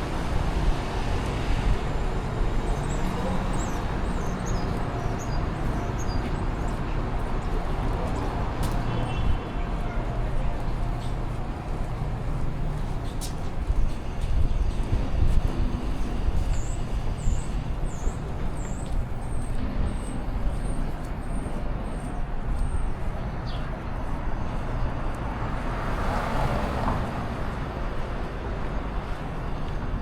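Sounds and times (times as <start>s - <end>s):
street traffic rumbling: 0.0s - 30.0s.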